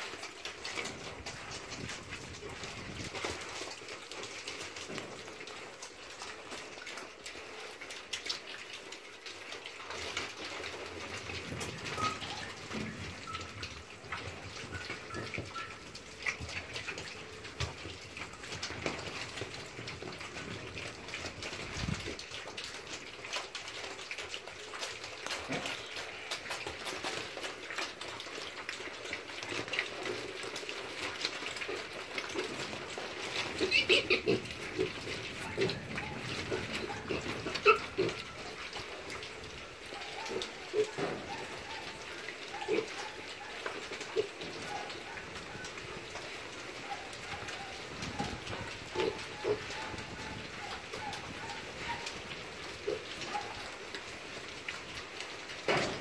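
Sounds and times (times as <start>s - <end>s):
piglets snuffling and chewing: 0.0s - 56.0s
trotters scuffling on concrete: 0.0s - 56.0s.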